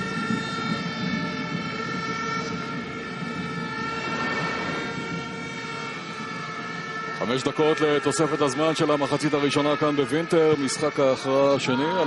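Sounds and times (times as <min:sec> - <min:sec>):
stadium crowd noise: 0:00.0 - 0:12.0.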